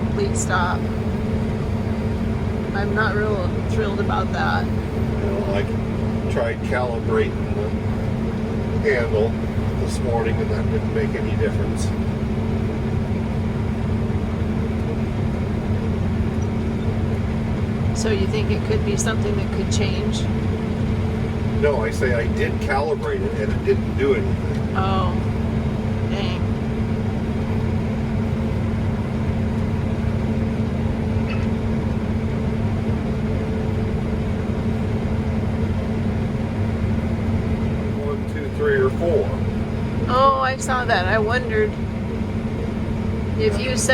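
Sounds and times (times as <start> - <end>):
combine harvester drone: 0.0 - 43.9.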